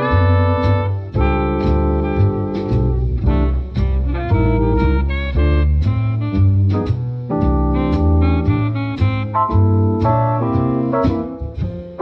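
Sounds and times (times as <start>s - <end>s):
instrumental music with bass beat: 0.0s - 12.0s.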